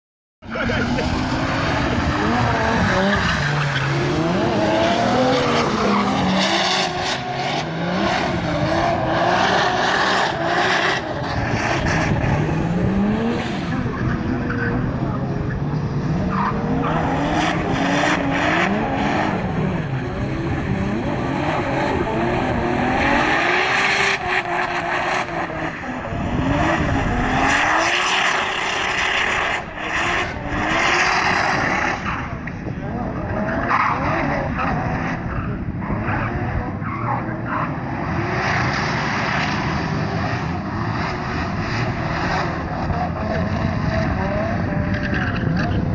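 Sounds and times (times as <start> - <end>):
car engine revving: 0.4 - 45.9.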